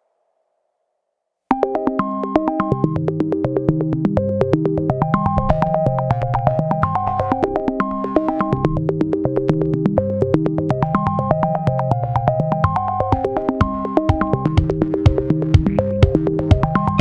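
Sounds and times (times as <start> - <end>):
electronic synthesizer music: 1.6 - 17.0.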